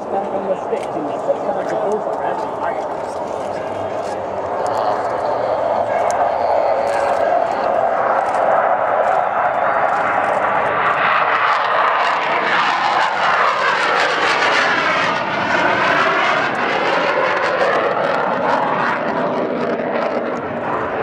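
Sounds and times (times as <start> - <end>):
jet aircraft flying past: 0.0 - 21.0.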